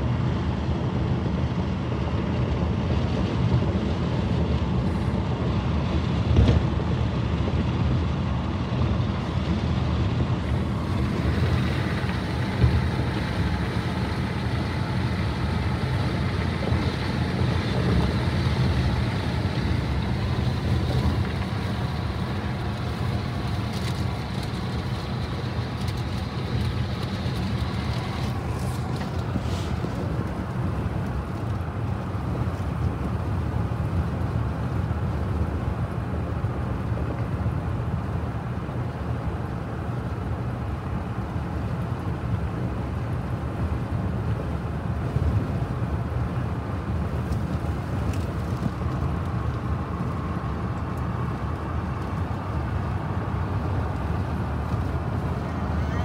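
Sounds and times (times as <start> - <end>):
road and engine noise in vehicle: 0.0 - 56.0.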